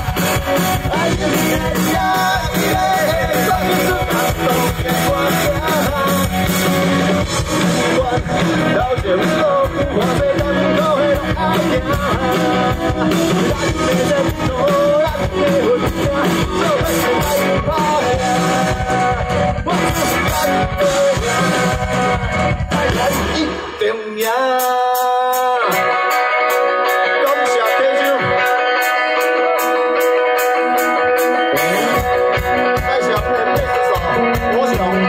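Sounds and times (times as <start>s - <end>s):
man singing into microphone: 0.0s - 29.4s, 31.2s - 35.0s
bass guitar: 0.0s - 35.0s
distorted electric guitars: 0.0s - 35.0s
drum kit: 0.0s - 35.0s.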